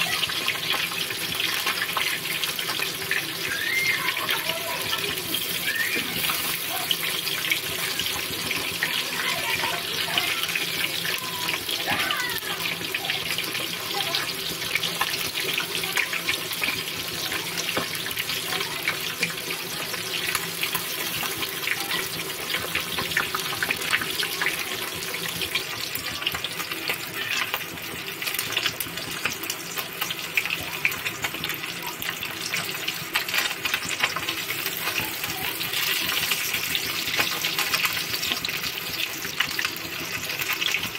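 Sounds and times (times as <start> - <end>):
fish deep-frying in oil: 0.0 - 40.9.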